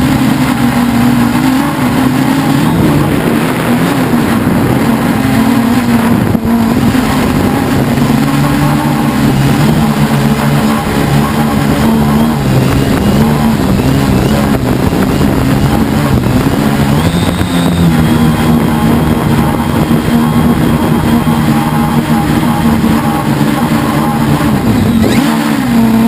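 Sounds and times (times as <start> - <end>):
quadcopter motors buzzing: 0.0 - 26.0
thin high whine: 0.0 - 26.0.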